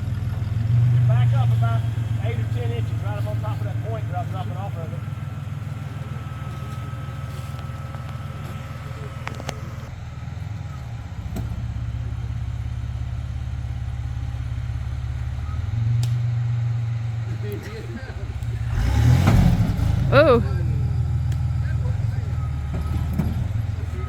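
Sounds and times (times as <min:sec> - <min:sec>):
off-road vehicle engine rumble: 0:00.0 - 0:24.0.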